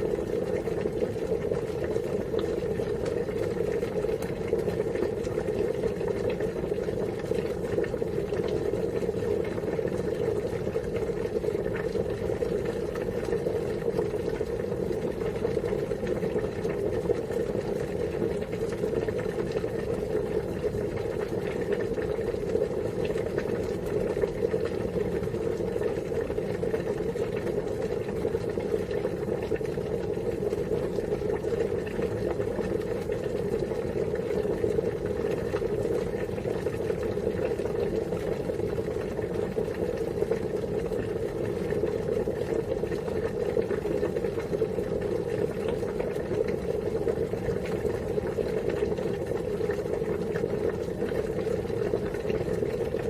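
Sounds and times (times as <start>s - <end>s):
water boiling: 0.0s - 53.0s.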